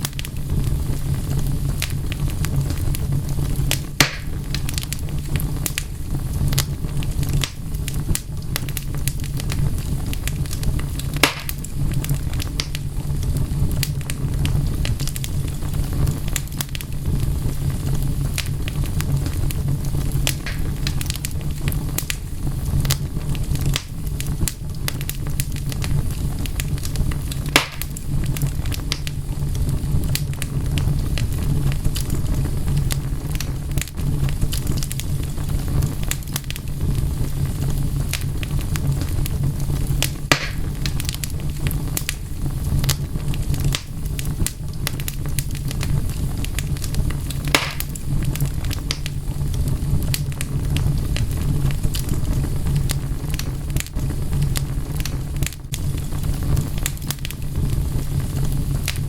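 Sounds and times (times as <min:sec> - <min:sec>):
low rumble: 0:00.0 - 0:59.0
wood fire crackling: 0:00.0 - 0:59.0.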